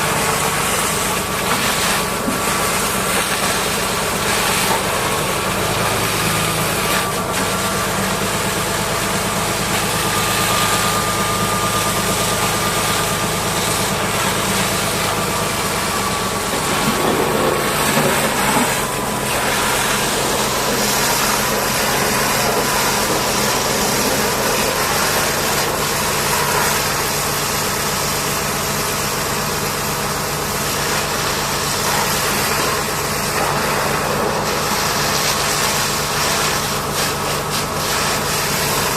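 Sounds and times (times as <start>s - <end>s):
large engine idling: 0.0s - 38.9s.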